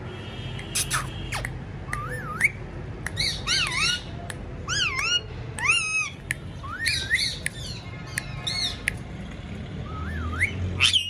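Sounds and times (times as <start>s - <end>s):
parakeet squawking: 0.8s - 8.8s, 10.1s - 11.0s.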